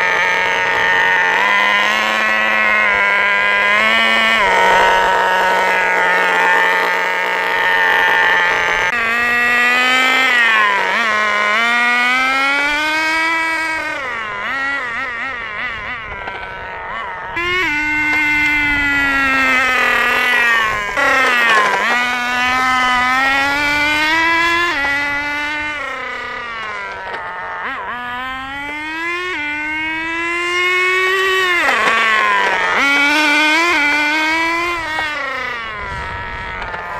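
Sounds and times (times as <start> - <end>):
nitro engine revving: 0.0 - 36.9.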